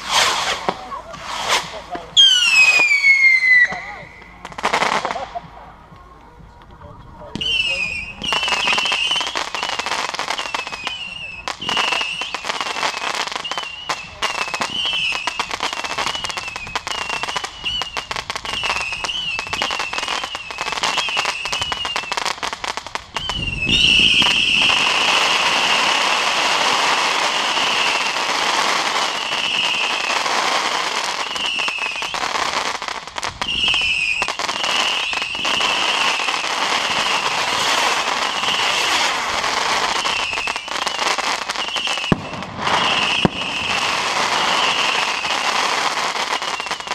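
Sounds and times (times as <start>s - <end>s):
high firework whistle: 0.0s - 4.5s, 7.4s - 22.5s, 23.1s - 46.9s
fireworks crackling pops: 0.0s - 46.9s.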